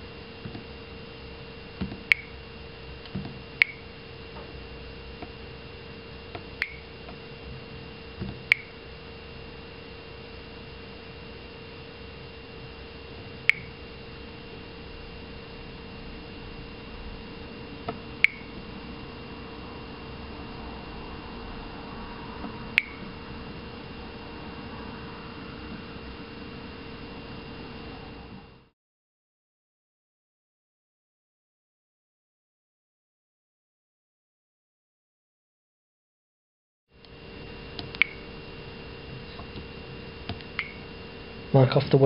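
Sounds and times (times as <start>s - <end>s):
faint hum: 0.0s - 28.7s, 37.0s - 42.0s.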